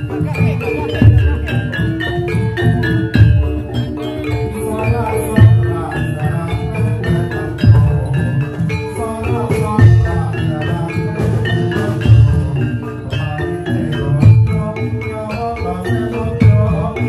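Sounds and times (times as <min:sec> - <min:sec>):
gamelan music: 0:00.0 - 0:17.0
metallophone melody notes: 0:00.0 - 0:17.0.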